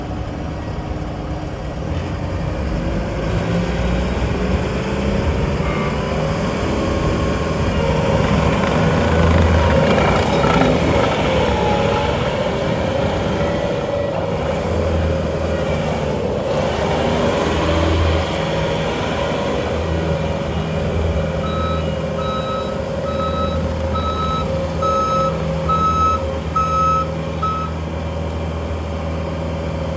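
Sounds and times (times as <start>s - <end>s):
diesel loader engine running: 0.0s - 29.9s.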